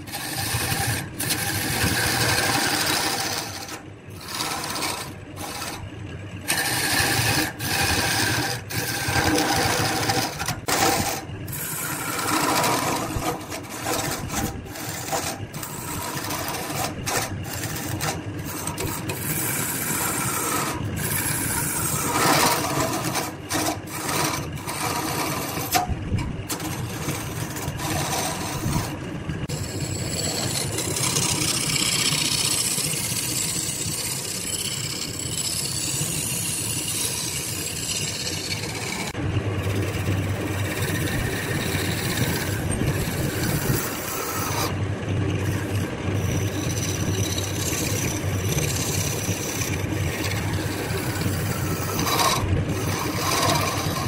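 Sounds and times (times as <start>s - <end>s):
tool scraping spinning wood: 0.0s - 54.0s
wood lathe running: 0.0s - 54.0s.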